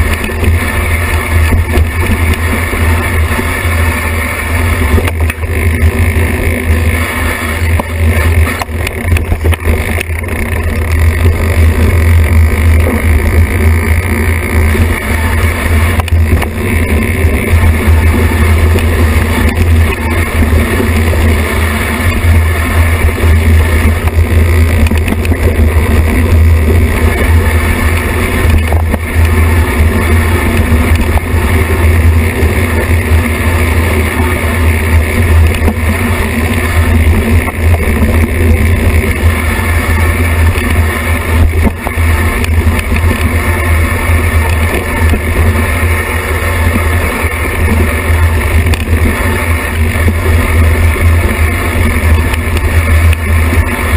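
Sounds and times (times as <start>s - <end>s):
wind and trail vibration rumble: 0.0s - 53.9s.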